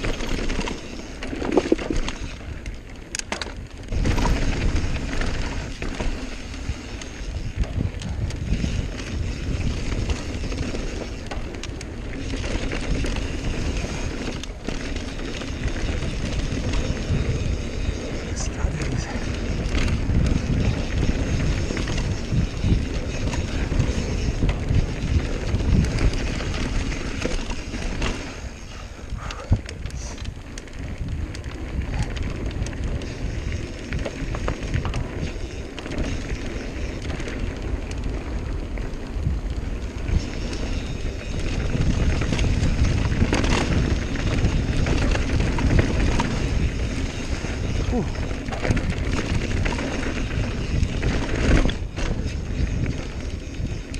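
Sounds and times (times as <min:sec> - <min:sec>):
bike rattling and clacking: 0:00.0 - 0:53.9
tyres rolling on dirt: 0:00.0 - 0:53.9
wind rushing over microphone: 0:00.0 - 0:53.9.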